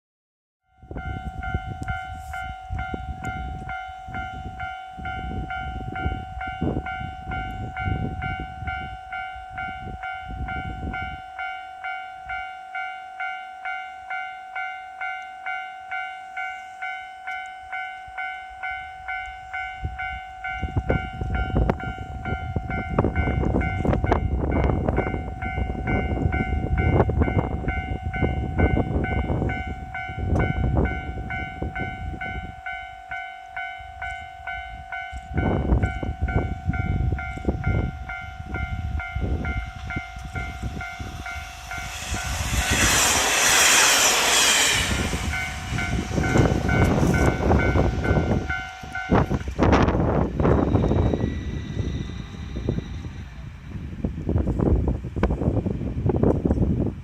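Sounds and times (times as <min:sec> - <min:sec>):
level-crossing alarm dinging: 0:00.7 - 0:53.4
train passing with wheel clatter: 0:00.7 - 0:57.0.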